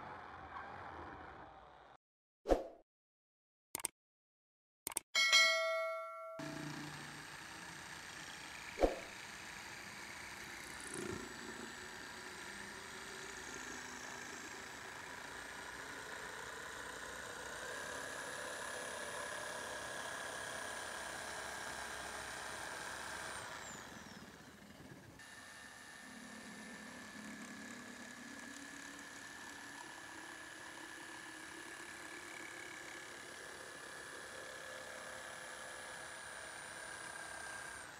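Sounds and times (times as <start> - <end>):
electric jigsaw cutting wood: 6.4 - 37.9.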